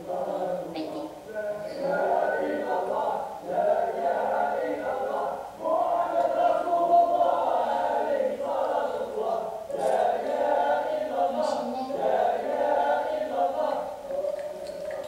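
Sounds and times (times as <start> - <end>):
people chanting with long held notes: 0.0 - 15.0.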